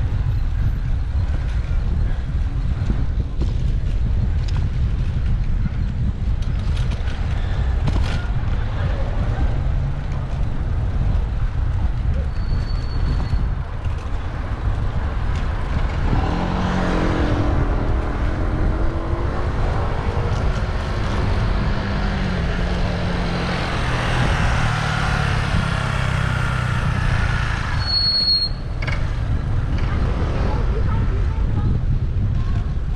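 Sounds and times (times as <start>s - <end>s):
motor vehicle engine running: 0.0s - 32.9s
road rumble: 0.0s - 32.9s
wind noise: 0.0s - 32.9s.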